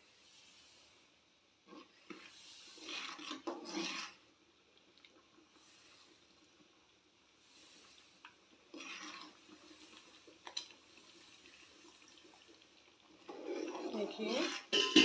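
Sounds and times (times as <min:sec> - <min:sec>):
spoon stirring in simmering pot: 0:01.7 - 0:06.8, 0:07.4 - 0:15.0.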